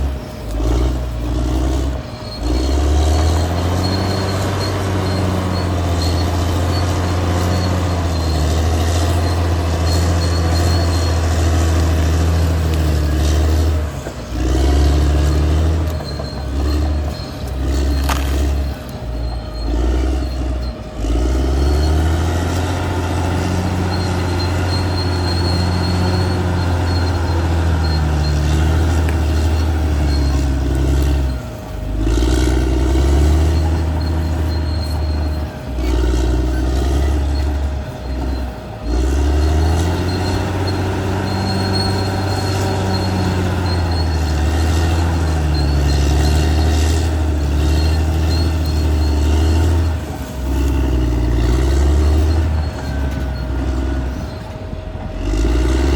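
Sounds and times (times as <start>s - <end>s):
bulldozer diesel engine working: 0.0s - 55.9s.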